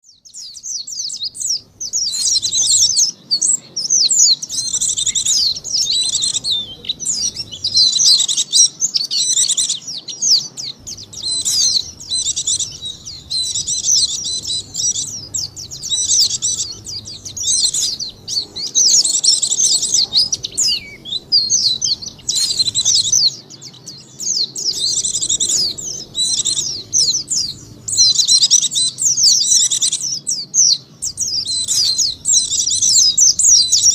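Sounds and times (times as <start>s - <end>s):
birds twittering: 0.0s - 33.9s.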